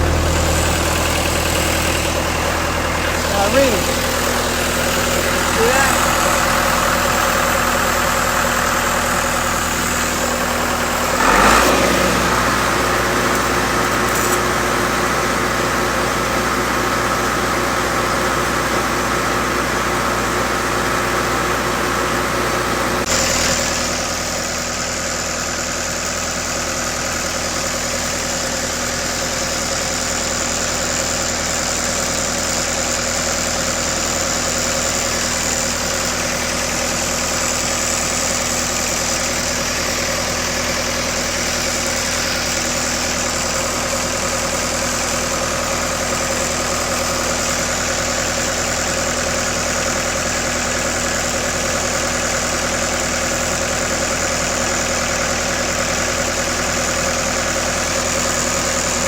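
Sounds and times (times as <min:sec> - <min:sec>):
welder engine running: 0:00.0 - 0:59.0.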